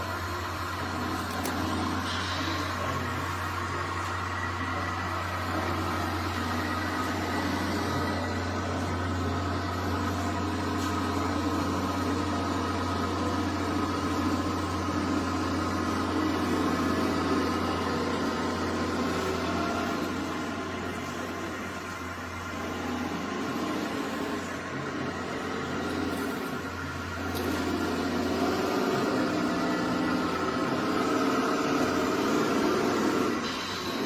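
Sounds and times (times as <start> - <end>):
small electric motors whining: 0.0 - 34.0.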